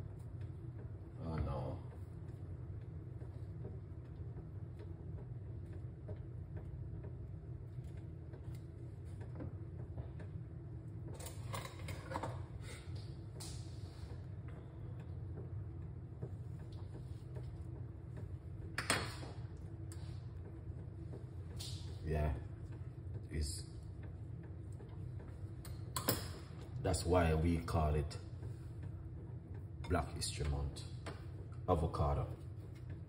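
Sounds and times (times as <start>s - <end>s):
low kitchen hum: 0.0s - 33.0s.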